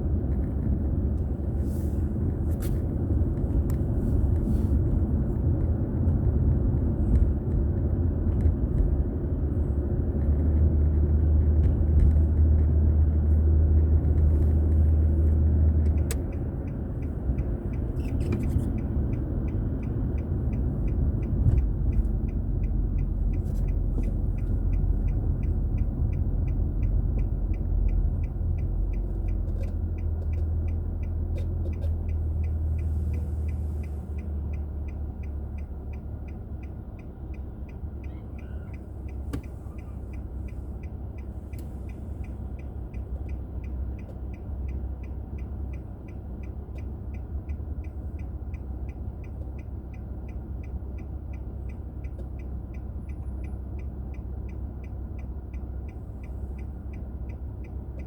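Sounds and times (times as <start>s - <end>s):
car road and engine rumble: 0.0s - 58.0s
turn signal ticking: 0.0s - 58.0s.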